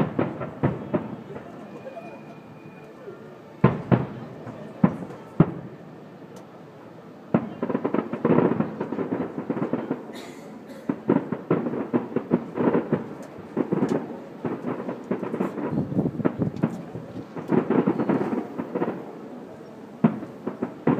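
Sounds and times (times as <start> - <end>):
fireworks crackling pops: 0.0 - 1.8, 3.6 - 6.6, 7.3 - 20.9
fireworks booming: 0.0 - 2.8, 3.5 - 6.0, 7.3 - 20.9.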